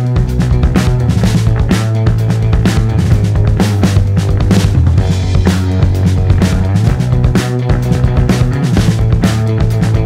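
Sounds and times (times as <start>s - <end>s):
drum kit hits: 0.0s - 10.0s
electric guitar: 0.0s - 10.0s
low bass guitar note: 0.0s - 10.0s.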